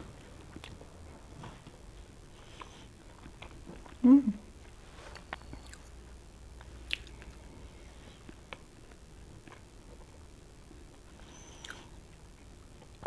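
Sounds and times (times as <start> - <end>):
person chewing cake: 0.1 - 10.3, 11.0 - 13.0.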